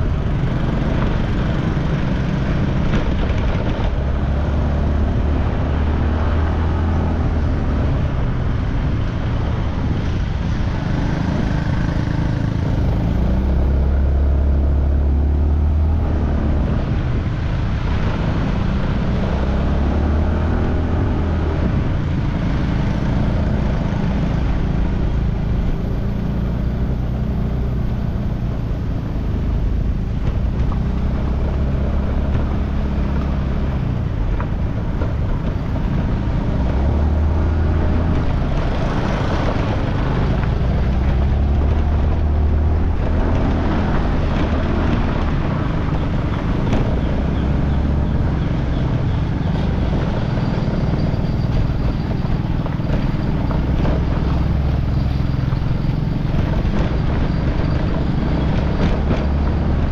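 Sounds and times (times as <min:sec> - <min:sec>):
road noise rumble: 0:00.0 - 0:59.9.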